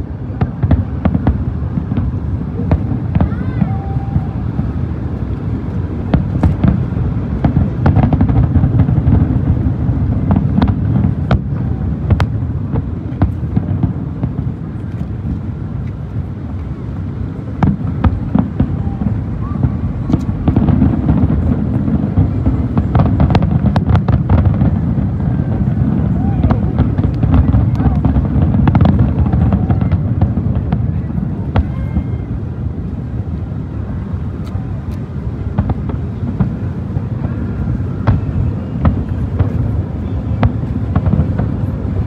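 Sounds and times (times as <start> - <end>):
fireworks bursting: 0.0 - 42.0.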